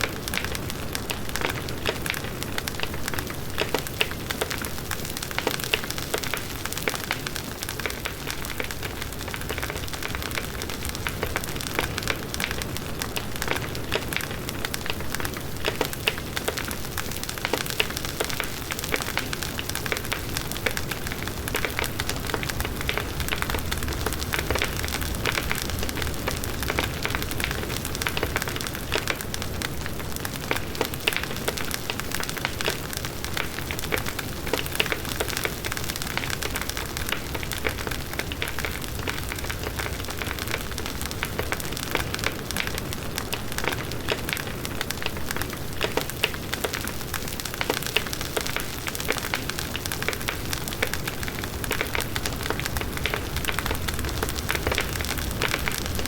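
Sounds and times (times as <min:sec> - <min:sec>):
bonfire crackling: 0:00.0 - 0:56.0
burning wood popping: 0:00.1 - 0:56.0.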